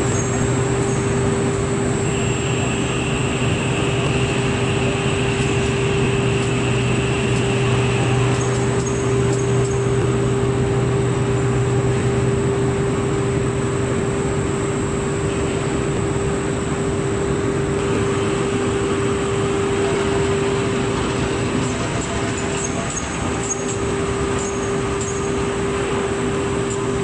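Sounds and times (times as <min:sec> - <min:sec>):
constant hum: 0:00.0 - 0:27.0
factory machines and blowers droning: 0:00.0 - 0:27.0
thin high whine: 0:00.0 - 0:27.0.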